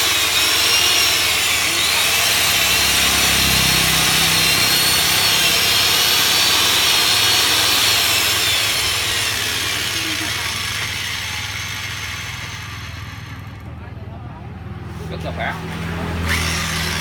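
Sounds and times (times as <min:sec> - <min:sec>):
electric chainsaw whine: 0:00.0 - 0:13.7, 0:16.0 - 0:17.0.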